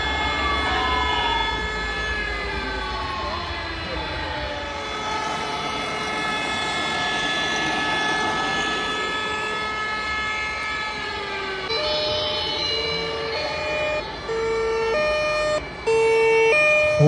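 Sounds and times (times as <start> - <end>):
toy fire truck sirens: 0.0 - 17.0
two-tone siren: 0.0 - 17.0.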